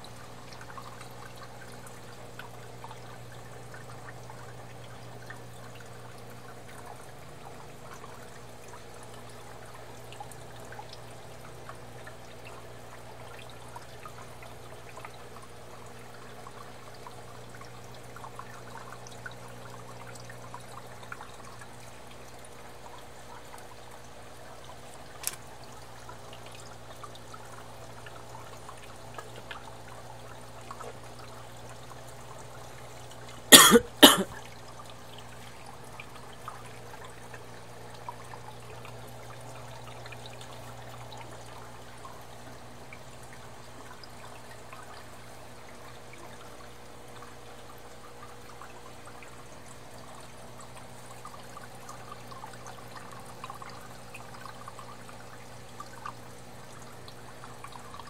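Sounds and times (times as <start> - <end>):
aquarium water trickling: 0.0 - 58.0
low hum of tank pump: 0.0 - 58.0.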